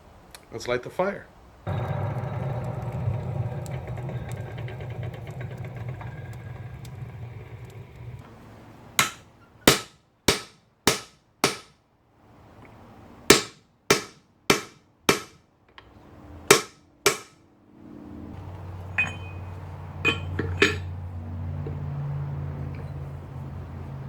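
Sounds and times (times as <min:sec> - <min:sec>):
forge humming: 0:01.7 - 0:11.7, 0:13.3 - 0:24.0.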